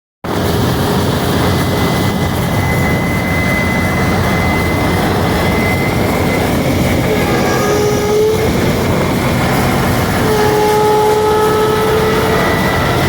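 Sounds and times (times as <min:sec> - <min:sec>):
drilling rig machinery din: 0:00.3 - 0:13.0
high-pitched whine: 0:00.3 - 0:13.0.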